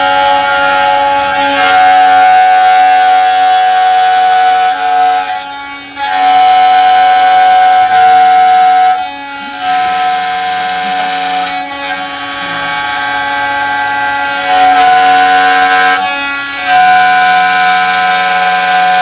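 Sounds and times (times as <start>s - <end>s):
wood router whining: 0.0s - 19.0s.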